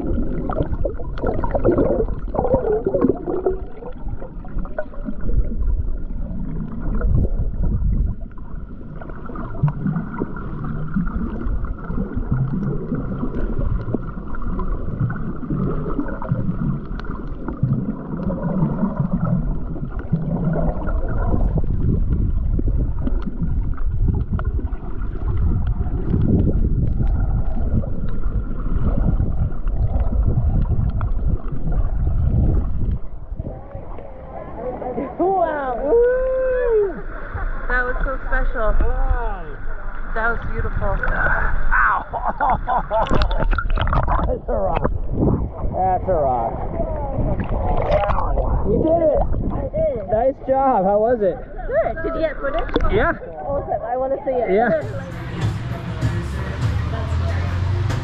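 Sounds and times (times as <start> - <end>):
water sloshing and gurgling: 0.0 - 58.0.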